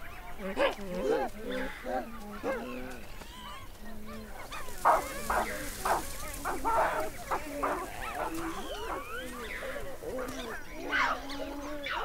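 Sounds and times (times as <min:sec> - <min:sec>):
monkeys calling: 0:00.0 - 0:12.0.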